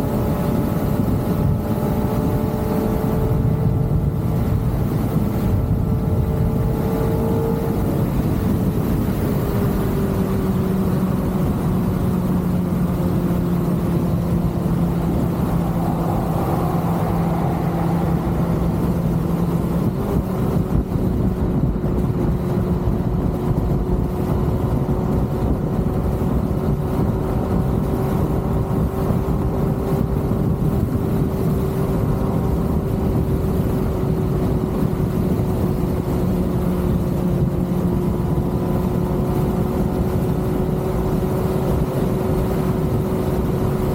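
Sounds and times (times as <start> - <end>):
motorcycle engine cruising: 0.0 - 43.9
wind noise: 0.0 - 43.9.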